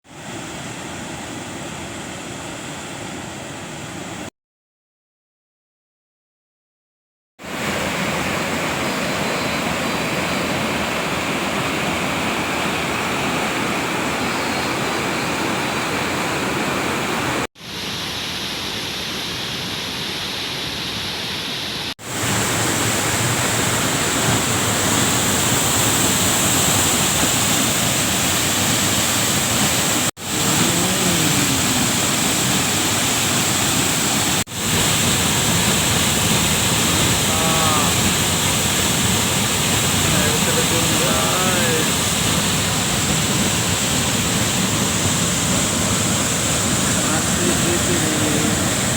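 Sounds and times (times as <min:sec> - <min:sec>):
waterfall roaring: 0:07.4 - 0:48.9.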